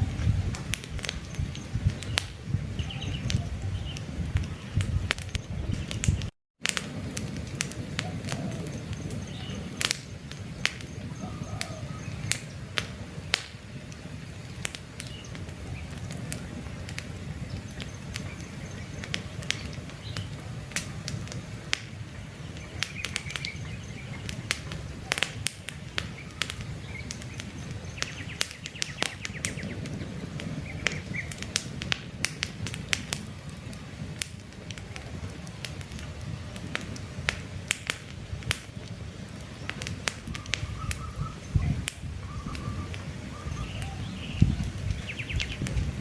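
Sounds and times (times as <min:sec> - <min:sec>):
birds chirping: 0:00.0 - 0:06.3, 0:07.7 - 0:31.8, 0:38.1 - 0:46.0
campfire crackling: 0:00.0 - 0:46.0
flames rumbling: 0:00.0 - 0:46.0.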